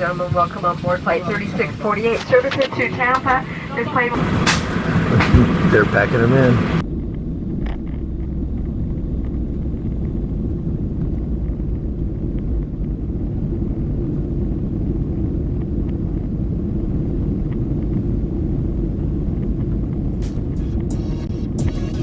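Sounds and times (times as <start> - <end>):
jet engine cabin rumble: 0.0 - 21.6.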